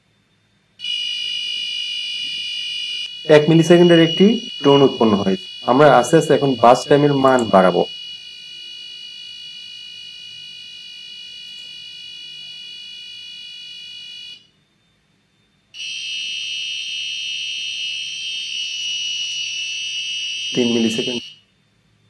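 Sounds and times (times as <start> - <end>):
buzzer buzzing tone: 0.8 - 14.5, 15.8 - 21.4.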